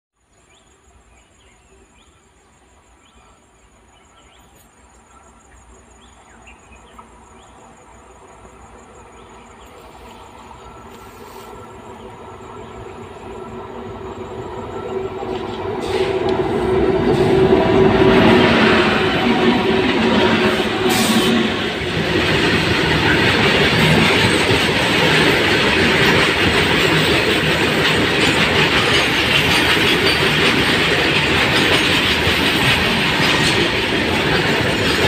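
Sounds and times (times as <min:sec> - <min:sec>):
electric locomotive hauling a train: 0:06.1 - 0:35.0.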